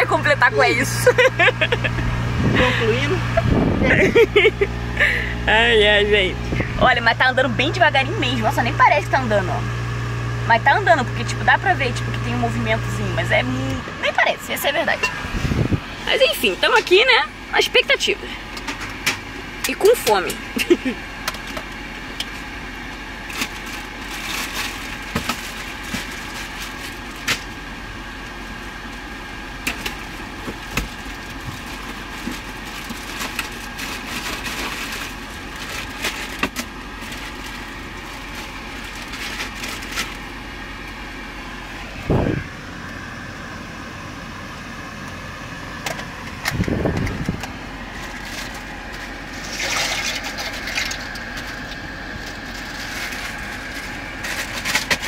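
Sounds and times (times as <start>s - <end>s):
boat engine drone: 0.0s - 55.0s.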